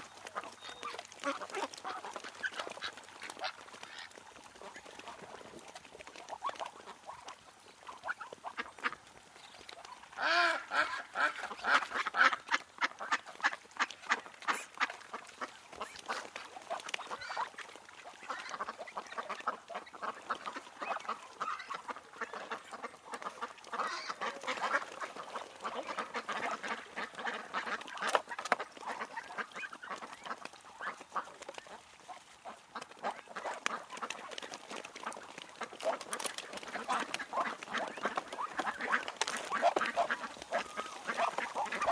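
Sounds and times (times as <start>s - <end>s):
ducks quacking: 0.0s - 41.9s.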